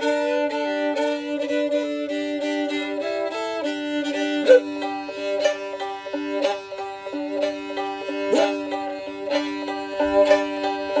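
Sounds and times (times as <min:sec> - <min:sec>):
fiddle tune with drone: 0:00.0 - 0:11.0.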